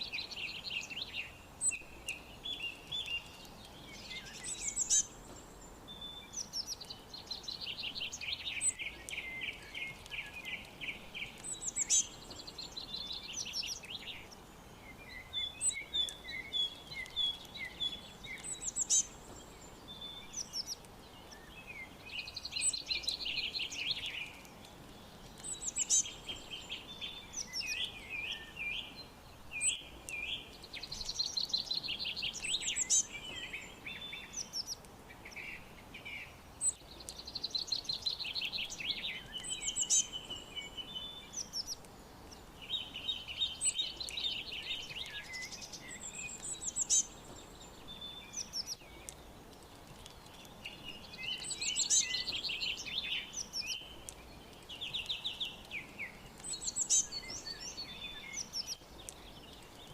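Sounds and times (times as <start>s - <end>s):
faint steady hiss: 0.0s - 59.9s
songbirds singing and chirping: 0.0s - 59.9s.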